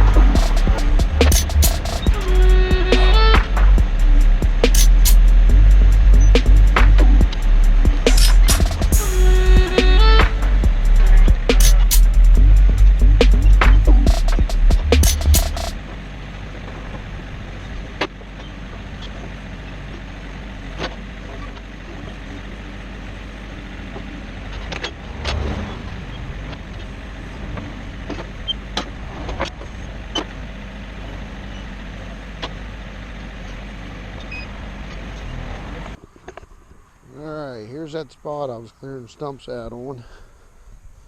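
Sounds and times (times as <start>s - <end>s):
garden tractor engine running: 0.0s - 36.4s.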